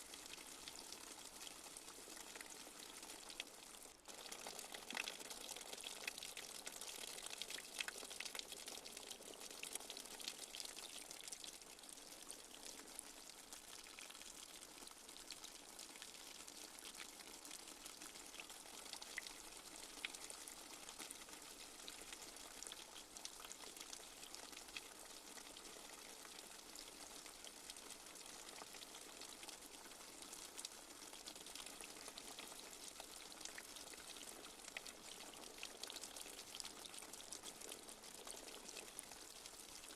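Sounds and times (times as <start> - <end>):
light rain patter: 0.0 - 39.9
small drips: 0.0 - 39.9.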